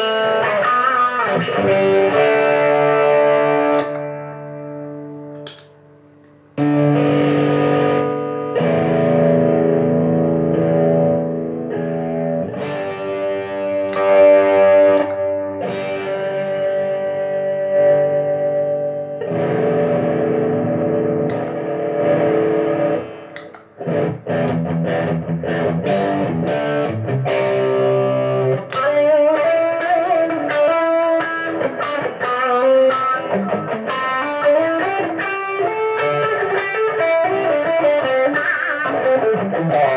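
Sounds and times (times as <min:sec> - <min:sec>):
electric guitar chords: 0:00.0 - 0:39.9
electric guitar single-note lines: 0:00.0 - 0:39.9.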